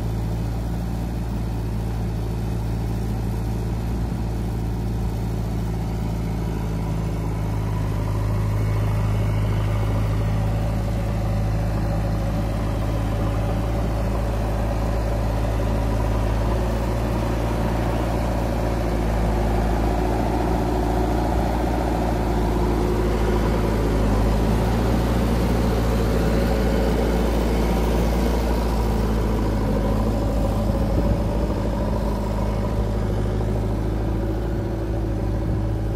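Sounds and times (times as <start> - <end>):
diesel engines running: 0.0 - 35.9.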